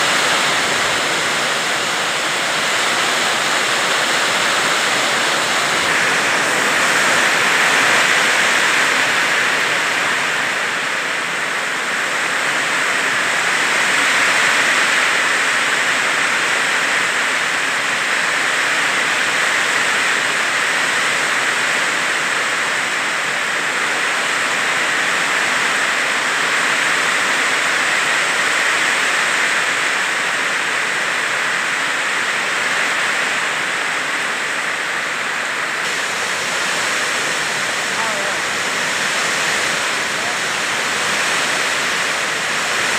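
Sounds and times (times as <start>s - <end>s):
heavy rain downpour: 0.0s - 42.9s.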